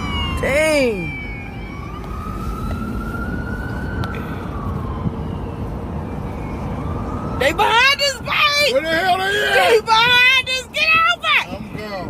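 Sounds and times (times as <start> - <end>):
emergency siren wailing: 0.0 - 11.5
road noise inside car: 0.0 - 12.0.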